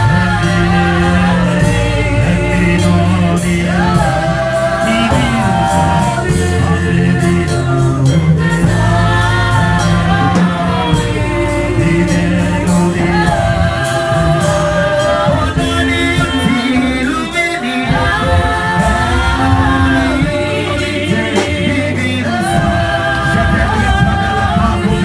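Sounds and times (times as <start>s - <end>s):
worship song with band and vocals: 0.0s - 25.0s.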